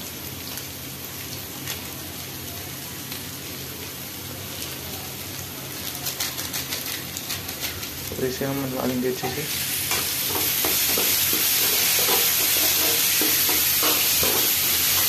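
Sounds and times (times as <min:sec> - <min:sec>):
crackles and pops of frying: 0:00.0 - 0:15.0
masala sizzling in oil: 0:00.0 - 0:15.0.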